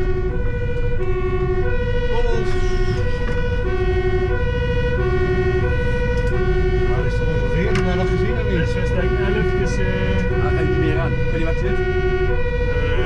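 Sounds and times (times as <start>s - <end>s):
truck engine and road rumble: 0.0s - 13.0s
two-tone siren: 0.0s - 13.0s.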